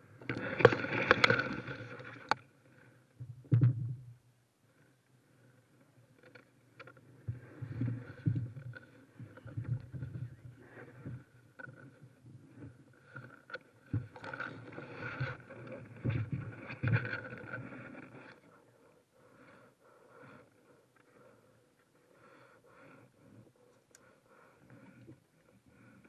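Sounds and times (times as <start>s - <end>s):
scrapes and rustling in kayak: 0.2s - 3.0s, 6.2s - 26.0s.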